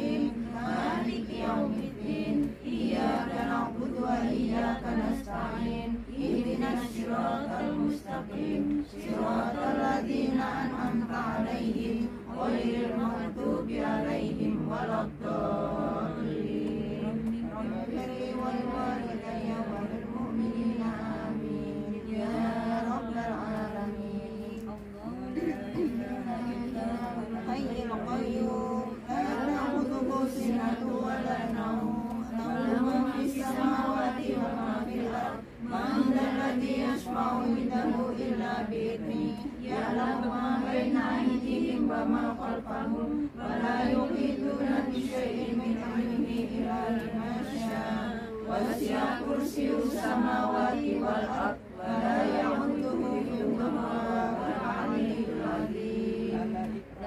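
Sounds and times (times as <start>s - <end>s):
women chanting in unison: 0.0s - 57.0s.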